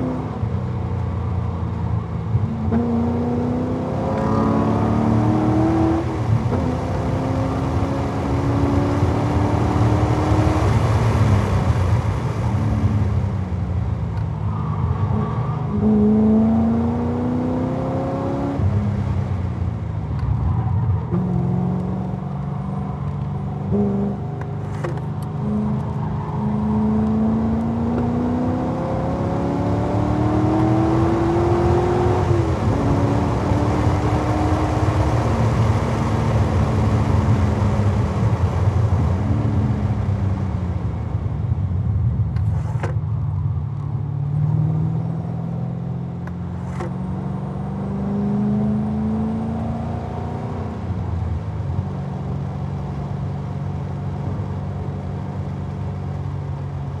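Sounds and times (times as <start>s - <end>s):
sports car engine at full throttle: 0.0s - 57.0s.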